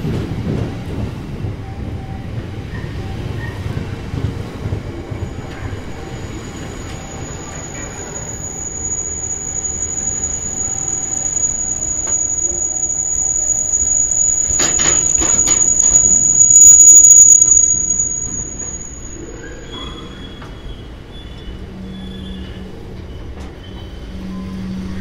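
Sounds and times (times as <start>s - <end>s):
train clanks: 0.0s - 21.8s
train wheels squealing: 0.8s - 25.0s.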